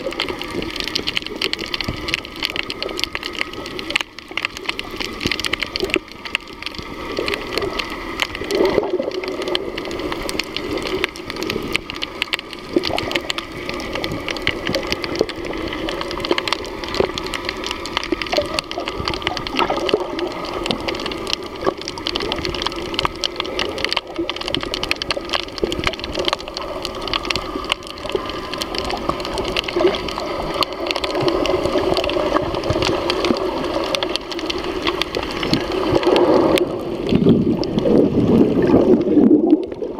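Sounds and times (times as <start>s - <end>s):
fine crackling clicks: 0.0s - 39.9s
muffled underwater rush: 0.0s - 39.9s.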